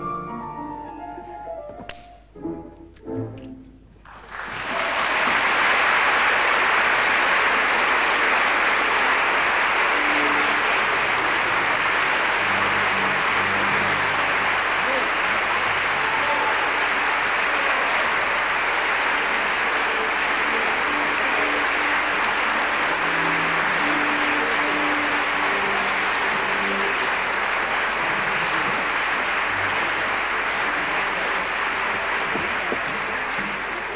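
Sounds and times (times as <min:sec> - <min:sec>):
audience applauding: 0:04.0 - 0:33.9.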